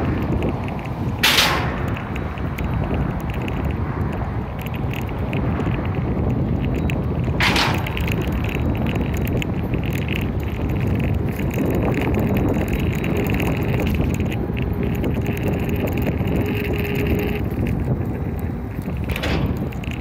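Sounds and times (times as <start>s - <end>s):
scooter rumble with rattling: 0.0s - 20.0s
wind on microphone: 0.0s - 20.0s.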